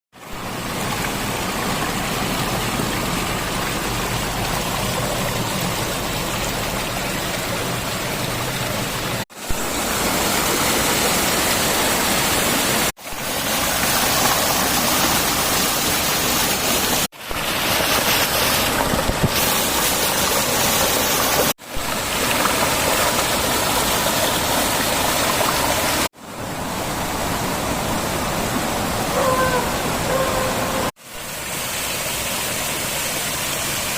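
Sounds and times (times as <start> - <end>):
flowing water rushing: 0.2 - 33.9.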